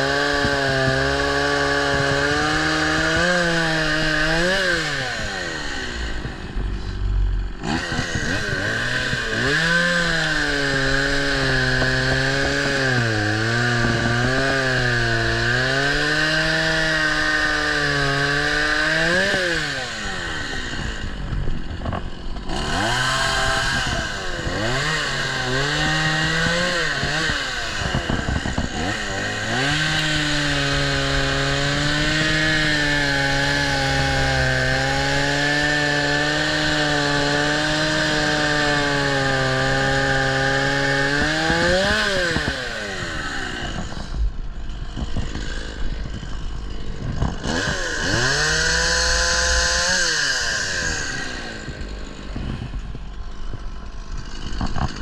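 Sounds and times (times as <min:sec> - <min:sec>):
chainsaw cutting wood: 0:00.0 - 0:55.0
chainsaw idling: 0:00.0 - 0:55.0.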